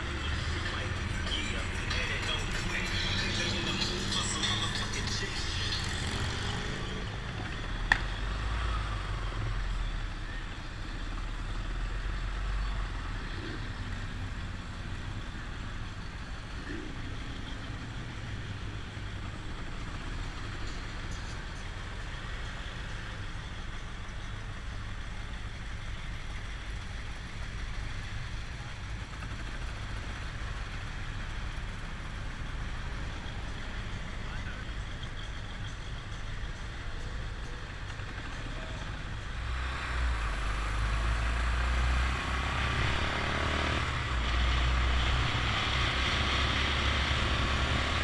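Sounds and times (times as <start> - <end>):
car traffic rumble: 0.0 - 48.0.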